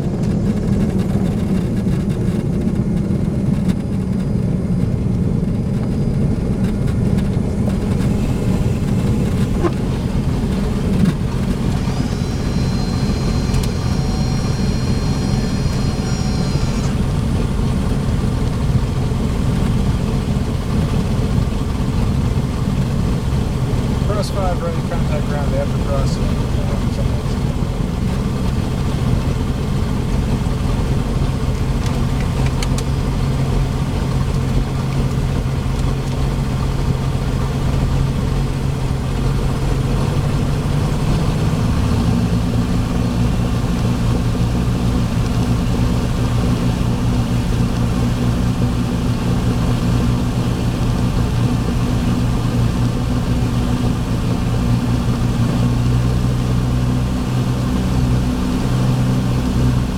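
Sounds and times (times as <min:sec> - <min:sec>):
propeller plane engine running: 0:00.0 - 0:59.9.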